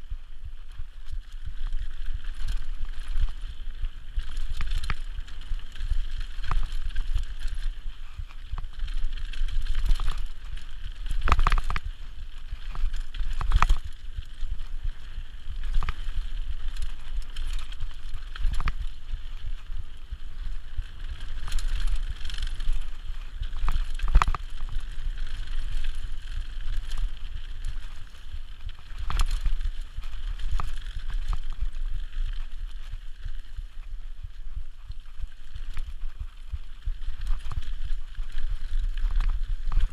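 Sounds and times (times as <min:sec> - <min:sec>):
bike rattling: 0:00.0 - 0:39.9.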